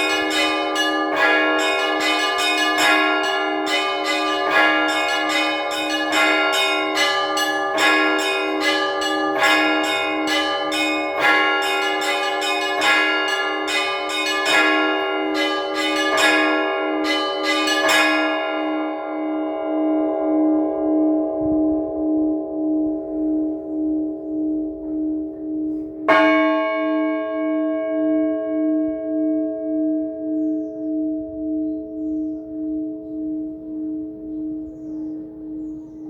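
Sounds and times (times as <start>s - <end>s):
large bell humming: 0.0s - 36.0s
small church bells ringing: 0.0s - 36.0s.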